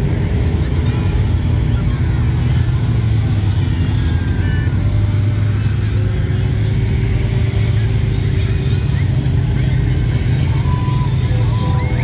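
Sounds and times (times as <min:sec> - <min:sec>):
engines droning: 0:00.0 - 0:12.0.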